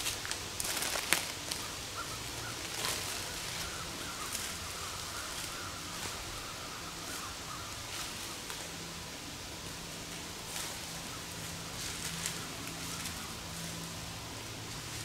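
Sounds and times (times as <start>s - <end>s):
rustling in dry leaves: 0.0s - 15.0s.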